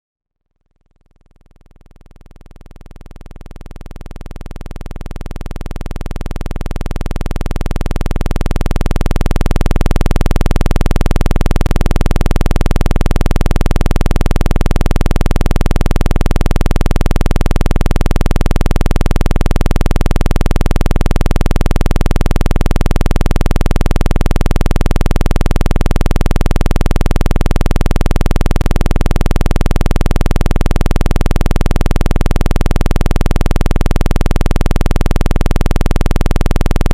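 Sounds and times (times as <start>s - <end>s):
deep low-pitched electronic hum: 1.7s - 36.9s.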